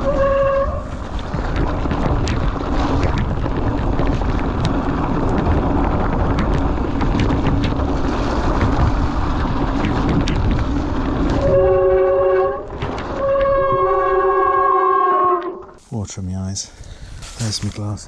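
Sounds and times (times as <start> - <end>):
bike clicks and rattles: 0.0 - 13.7, 16.8 - 18.0
wind buffeting microphone: 0.0 - 15.8
bike tyre rumble: 0.0 - 18.0.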